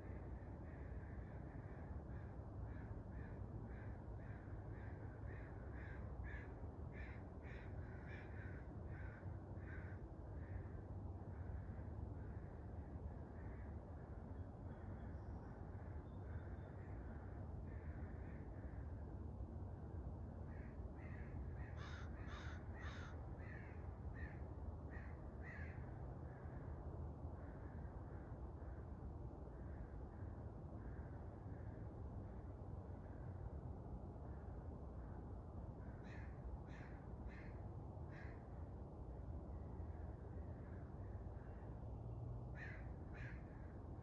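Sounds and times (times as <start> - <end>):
faint low hum: 0.0 - 44.0
faint low rumble: 0.0 - 44.0.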